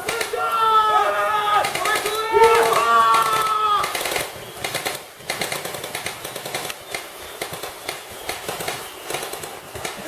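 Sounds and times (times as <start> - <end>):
airsoft guns firing: 0.0 - 0.6, 1.5 - 10.0.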